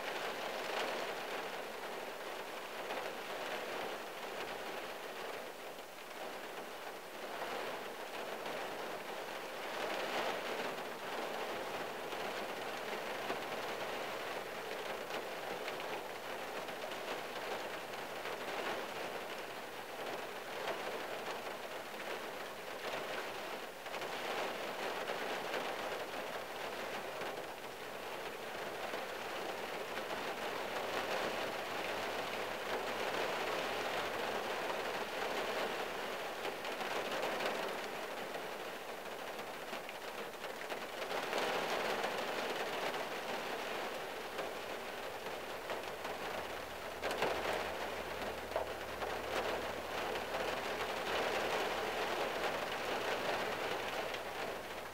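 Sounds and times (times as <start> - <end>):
rain on car roof from inside: 0.0 - 54.9.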